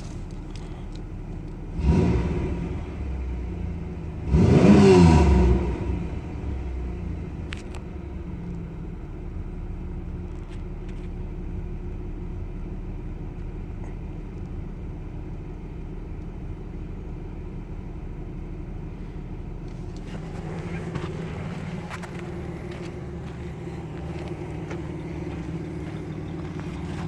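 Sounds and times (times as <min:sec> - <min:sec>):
car engine idling with misfire: 0:00.0 - 0:27.0.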